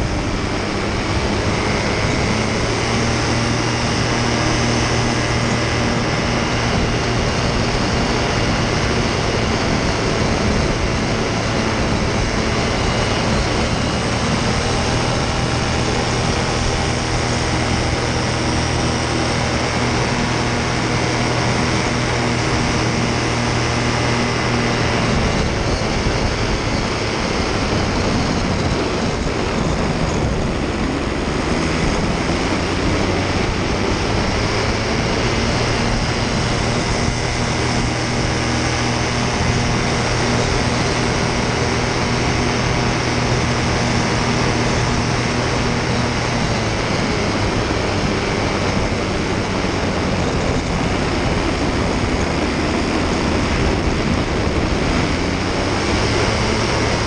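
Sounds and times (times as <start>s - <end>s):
paramotor engine droning: 0.0s - 57.0s
wind rushing over microphone: 0.0s - 57.0s.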